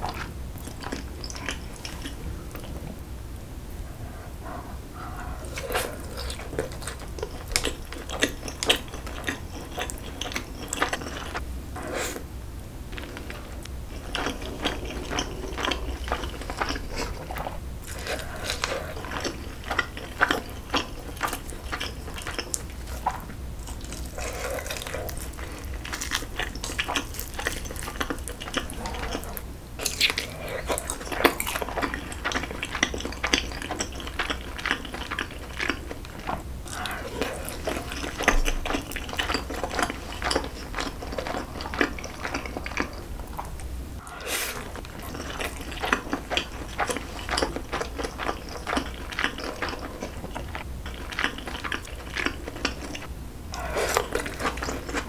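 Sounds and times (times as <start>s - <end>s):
chewing and wet mouth sounds: 0.0s - 3.0s, 4.0s - 11.4s, 12.9s - 55.0s.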